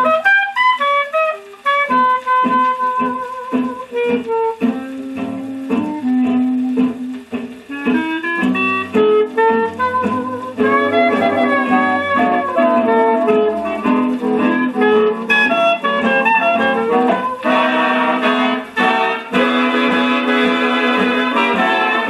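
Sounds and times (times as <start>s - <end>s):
clarinet and horns: 0.0s - 22.0s
muffled swing big band music: 0.0s - 22.0s.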